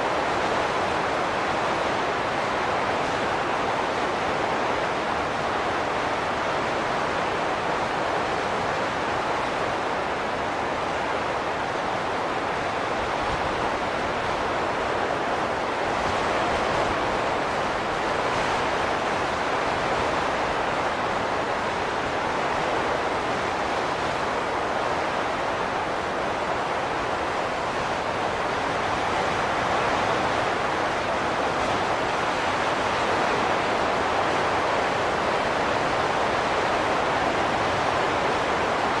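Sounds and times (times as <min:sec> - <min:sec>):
rushing wind: 0:00.0 - 0:39.0.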